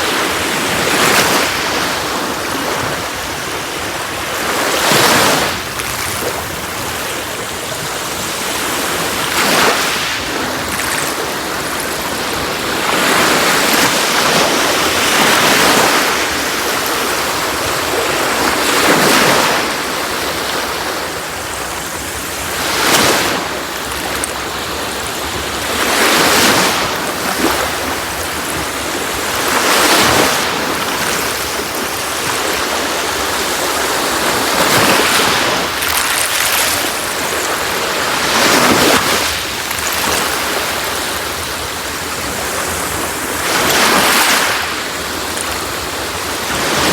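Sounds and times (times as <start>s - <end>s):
sea waves breaking on shore: 0.0s - 46.9s.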